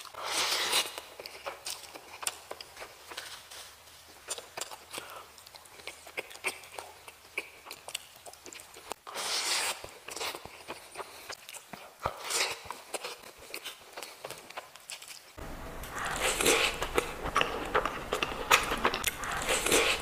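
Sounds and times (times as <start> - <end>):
fingers mixing rice on a plate: 0.0 - 20.0
wet chewing and mouth clicks: 0.0 - 20.0.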